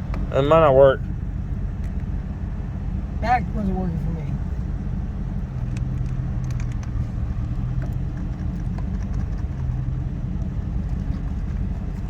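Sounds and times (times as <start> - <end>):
car cabin rumble: 0.0 - 12.0
low hum: 0.0 - 12.0.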